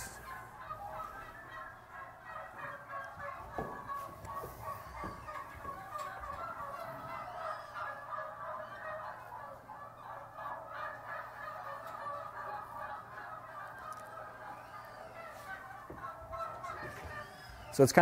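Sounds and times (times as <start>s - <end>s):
turkeys calling: 0.0s - 18.0s.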